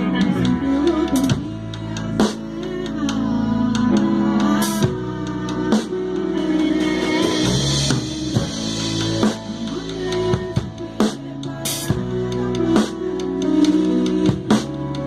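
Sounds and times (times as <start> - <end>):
drum kit beat: 0.0 - 15.0
electric bass: 0.0 - 15.0
keyboard: 0.0 - 15.0.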